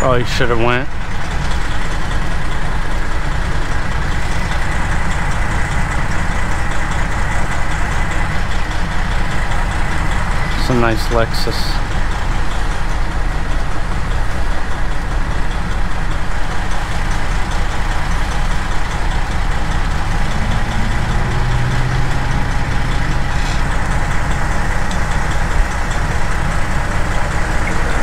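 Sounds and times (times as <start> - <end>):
deep hum: 0.0 - 28.0
diesel truck engine idling: 0.0 - 28.0.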